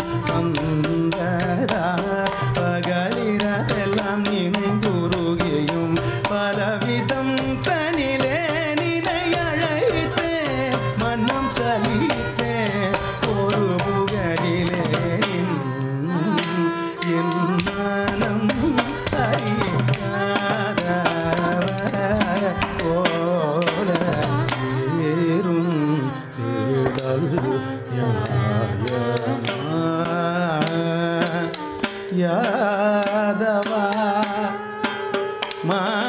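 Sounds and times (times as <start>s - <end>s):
mridangam drum strokes: 0.0s - 36.0s
person singing: 0.0s - 36.0s
violin: 0.0s - 36.0s.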